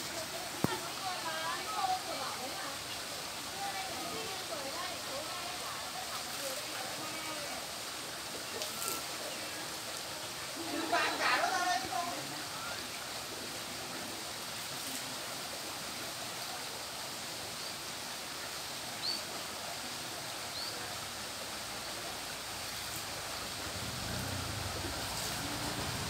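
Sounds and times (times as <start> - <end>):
running water hissing: 0.0 - 26.0.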